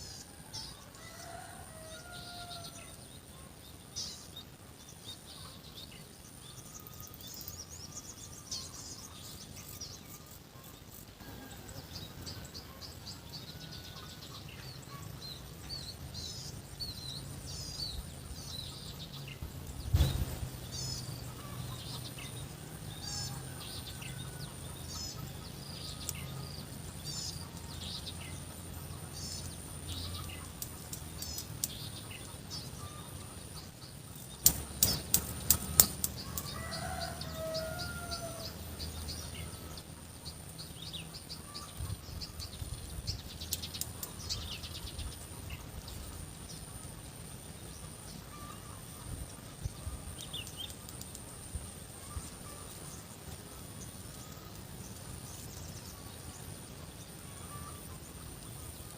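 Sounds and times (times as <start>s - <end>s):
birds chirping: 0.0s - 58.9s.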